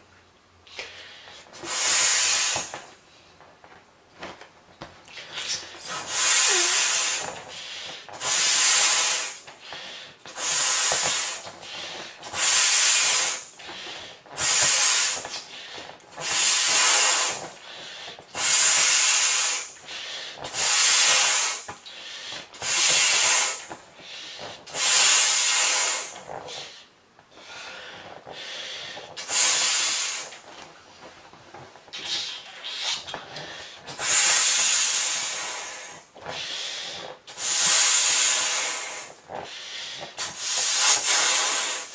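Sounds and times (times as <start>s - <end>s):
breaths hissing through valve: 0.7s - 2.9s, 5.1s - 30.4s, 31.9s - 41.9s.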